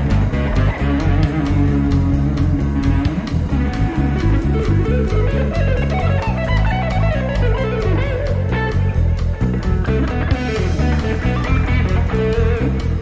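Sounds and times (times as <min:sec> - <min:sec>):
bass line: 0:00.0 - 0:13.0
drum kit with hi-hat: 0:00.0 - 0:13.0
electric guitar melody: 0:00.0 - 0:13.0.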